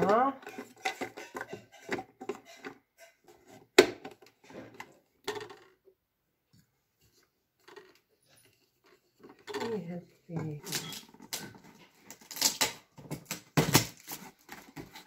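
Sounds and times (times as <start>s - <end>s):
plastic parts clicking and knocking: 0.0s - 5.9s, 7.6s - 15.0s.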